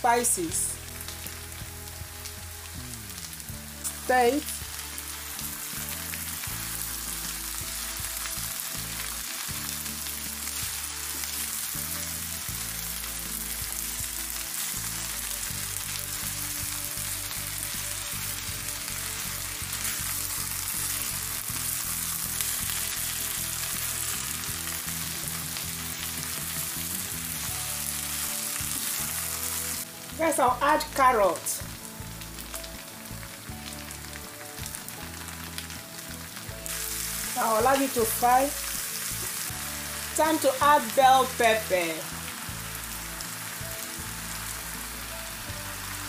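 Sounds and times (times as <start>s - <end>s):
vegetables sizzling in hot oil: 0.0s - 46.0s.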